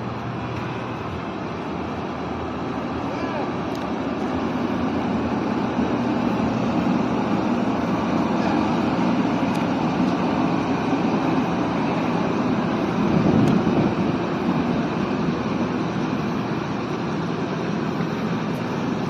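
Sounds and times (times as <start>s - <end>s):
excavator machinery running: 0.0s - 19.0s.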